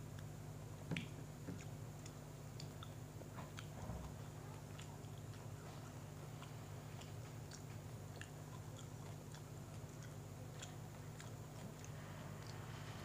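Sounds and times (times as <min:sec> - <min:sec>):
mouth clicks and smacks: 0:00.1 - 0:12.7
person chewing: 0:00.9 - 0:13.0.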